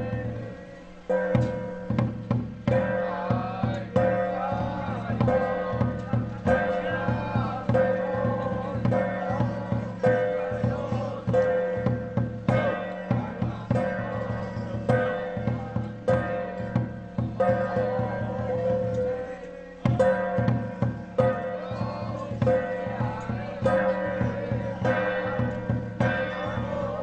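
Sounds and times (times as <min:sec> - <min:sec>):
drum and percussion strikes: 0:00.0 - 0:27.0.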